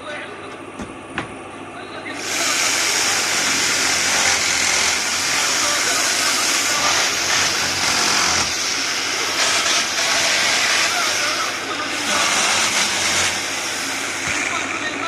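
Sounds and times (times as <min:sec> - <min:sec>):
workshop machinery: 0:00.0 - 0:15.0.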